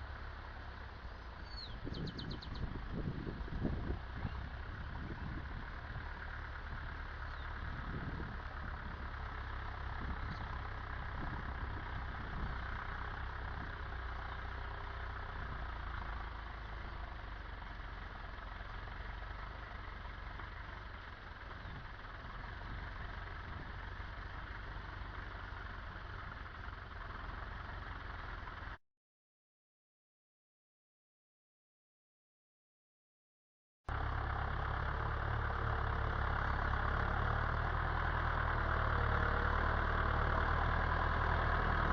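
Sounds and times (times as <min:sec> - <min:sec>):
tractor diesel engine running: 0:00.0 - 0:28.8, 0:33.9 - 0:41.9.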